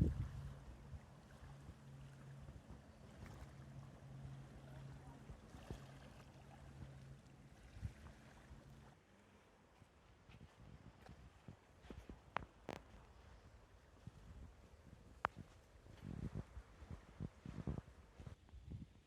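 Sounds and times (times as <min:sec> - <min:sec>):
low steady hum: 0:00.0 - 0:19.0
wind and water hiss: 0:00.0 - 0:19.0.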